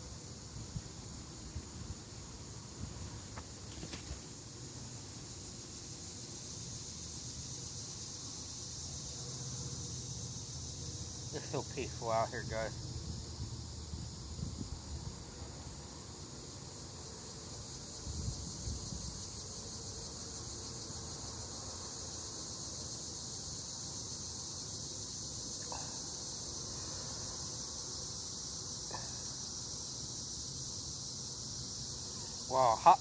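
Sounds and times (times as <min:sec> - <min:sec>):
insect chorus drone: 0:00.0 - 0:33.0.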